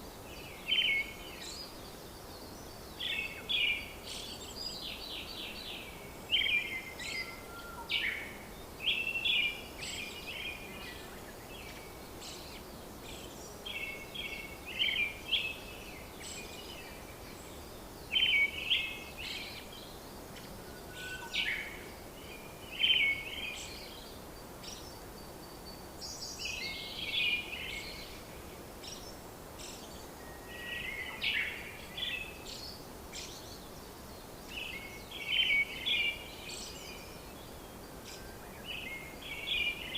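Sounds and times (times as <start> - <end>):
faint steady hiss: 0.0 - 39.9
birds chirping and singing: 0.4 - 39.9.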